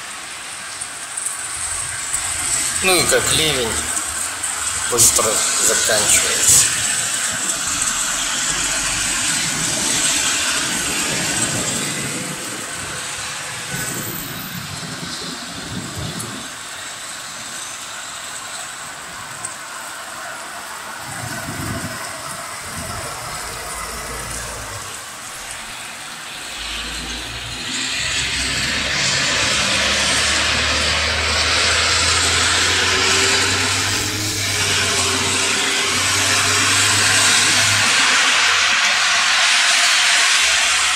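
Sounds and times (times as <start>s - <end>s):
cars swishing on wet road: 0.0s - 40.9s
heavy rain hissing: 0.0s - 40.9s.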